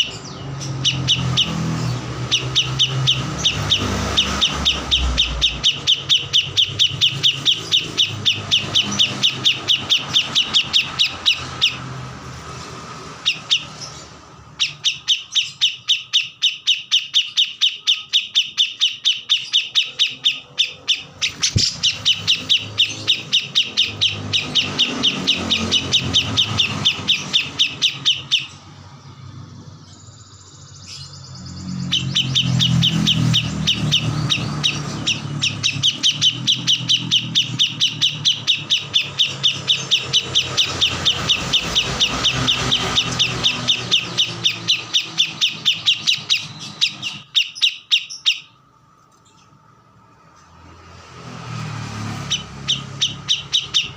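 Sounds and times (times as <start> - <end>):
songbird sharp repeated chirps: 0.0 - 49.6, 51.8 - 53.9.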